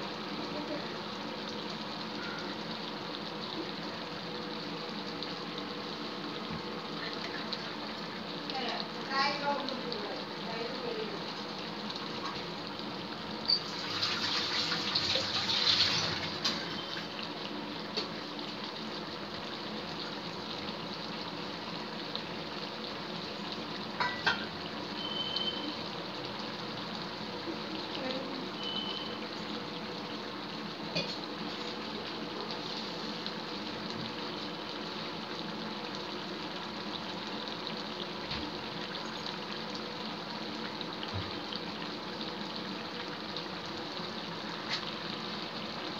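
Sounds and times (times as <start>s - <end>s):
gravy simmering and bubbling: 0.0s - 45.9s.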